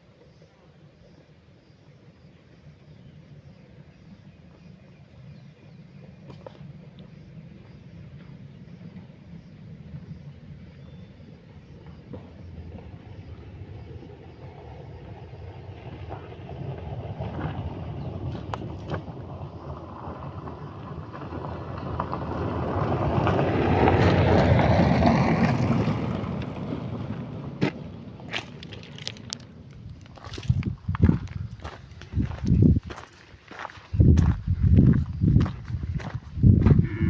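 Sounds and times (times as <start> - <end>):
vehicle passing on gravel road: 6.0 - 37.0.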